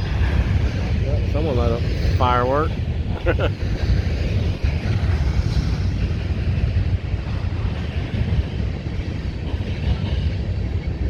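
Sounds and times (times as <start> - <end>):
freight train rolling: 0.0 - 11.0.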